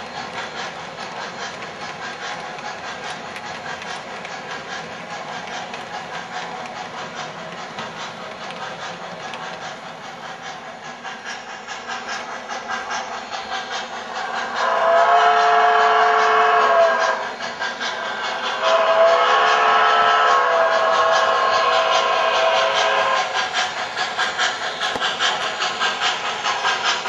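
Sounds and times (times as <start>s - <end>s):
steam hiss: 0.0s - 27.0s
train wheels clicking: 0.0s - 27.0s.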